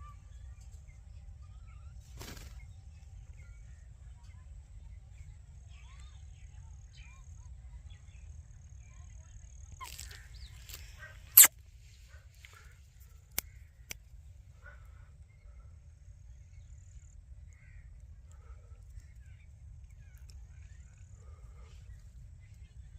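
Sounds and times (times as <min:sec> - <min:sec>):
faint bird chirps: 0:00.0 - 0:14.0, 0:14.6 - 0:22.9.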